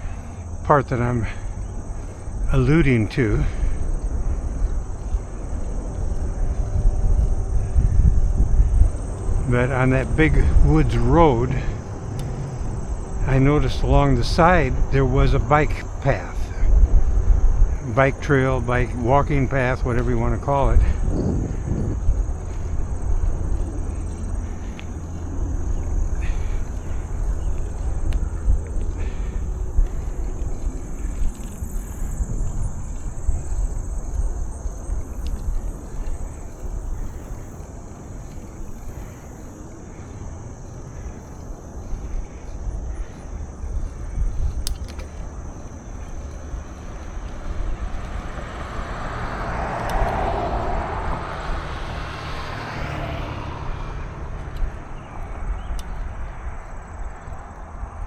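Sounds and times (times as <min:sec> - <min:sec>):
car passing by: 0:00.0 - 0:58.0
wind rumbling on microphone: 0:00.0 - 0:58.0.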